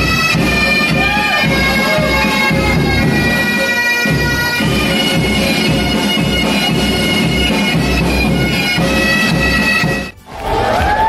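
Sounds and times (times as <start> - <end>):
bagpipes playing: 0.0 - 10.2
bass drum beat: 0.0 - 11.0.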